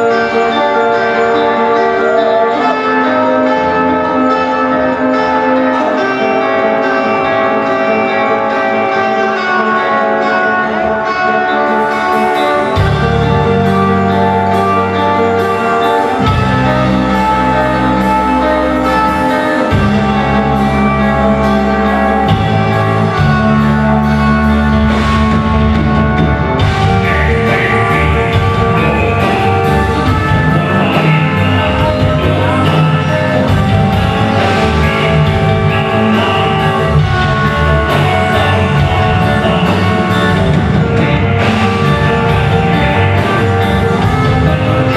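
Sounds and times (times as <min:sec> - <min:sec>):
bass guitar long notes: 0:00.0 - 0:44.9
electric guitars ringing chords: 0:00.0 - 0:44.9.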